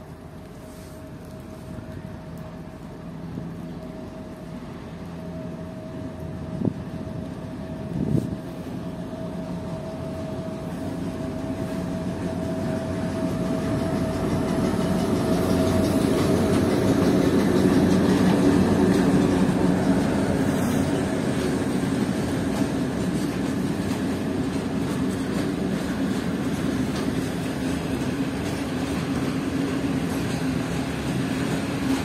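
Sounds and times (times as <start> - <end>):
diesel locomotive engine running: 0.0 - 32.0.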